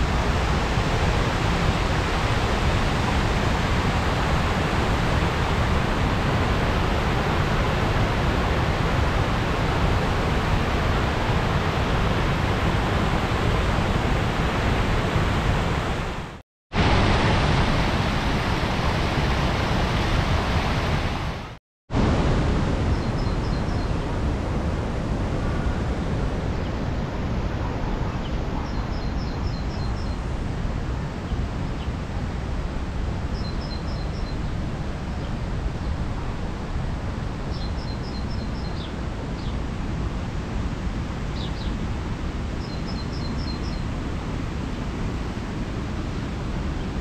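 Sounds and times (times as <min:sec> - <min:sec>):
water rushing down waterfall: 0:00.0 - 0:47.0.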